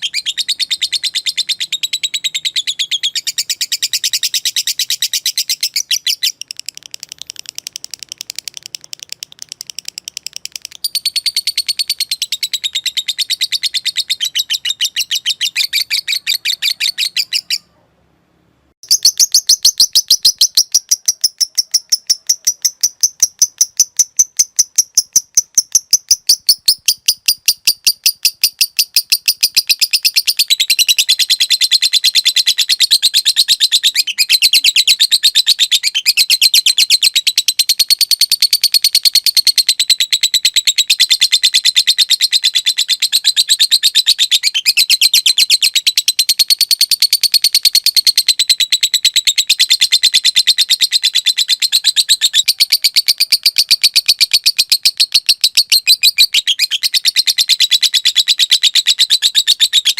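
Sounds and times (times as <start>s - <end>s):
lovebird ticking and trilling: 0.0s - 17.7s, 18.8s - 59.9s.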